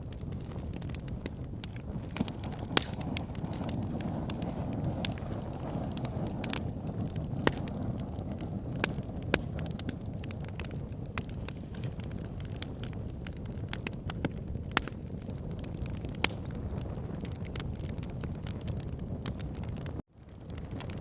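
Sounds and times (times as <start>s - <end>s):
burning logs crackling and popping: 0.0s - 21.0s
low rumble of fire flames: 0.0s - 21.0s.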